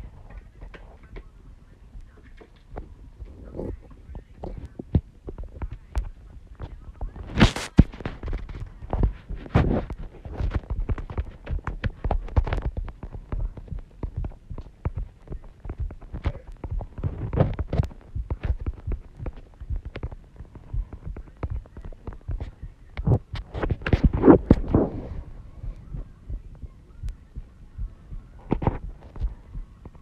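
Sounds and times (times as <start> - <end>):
fingertips tapping touchscreen: 0.4 - 30.0.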